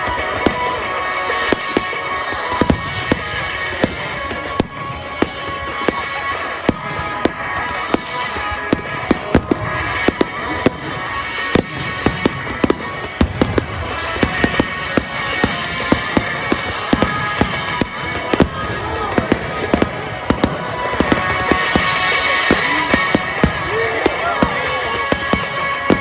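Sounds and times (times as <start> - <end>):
music playing: 0.0 - 26.0.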